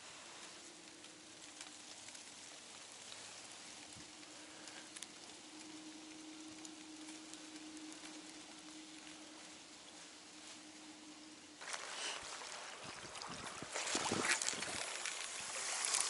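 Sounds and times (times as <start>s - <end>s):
faint steady hum: 0.0s - 16.0s
light rain pattering: 0.0s - 16.0s.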